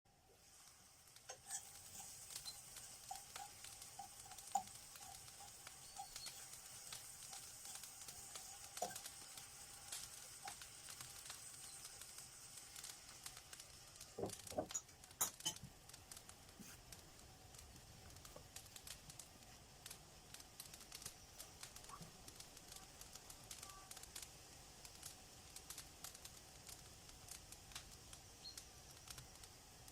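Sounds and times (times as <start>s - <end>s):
soft hiss: 0.1s - 29.9s
wood fire crackling: 0.1s - 29.9s.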